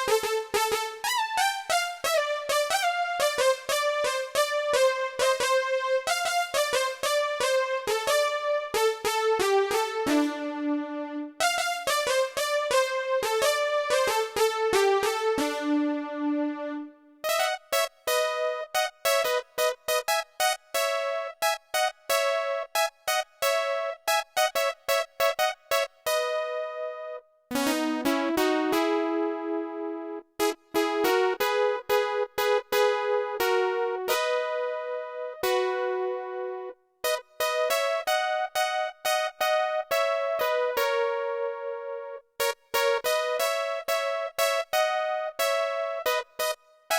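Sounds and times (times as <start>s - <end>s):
electronic keyboard melody: 0.0s - 46.9s.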